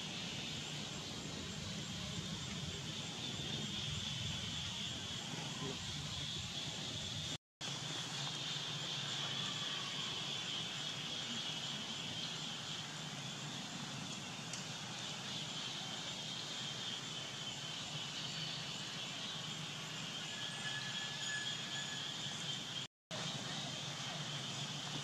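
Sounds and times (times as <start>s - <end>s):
high drone of insects: 0.0s - 25.0s.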